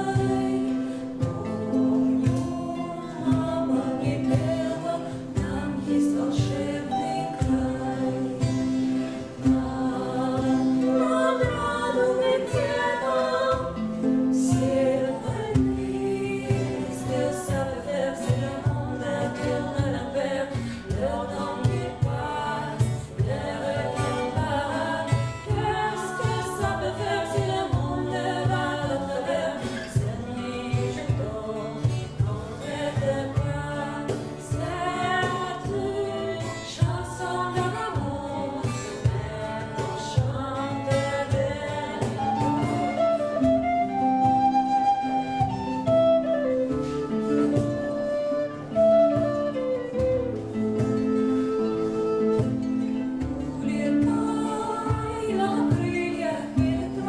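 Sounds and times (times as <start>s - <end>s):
acoustic plucked strings: 0.0s - 57.0s
person singing: 0.0s - 57.0s.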